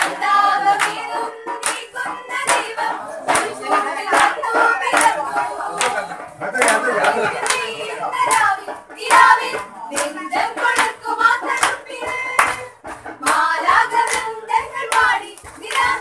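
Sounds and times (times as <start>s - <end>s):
group singing a carol: 0.0s - 16.0s
hand clapping in time: 0.0s - 16.0s.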